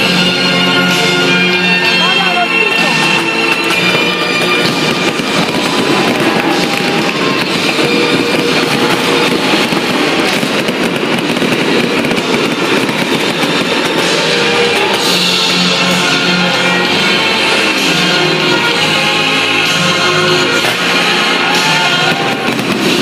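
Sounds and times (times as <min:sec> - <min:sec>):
fireworks crackling and banging: 0:00.0 - 0:23.0
loud music playing: 0:00.0 - 0:23.0.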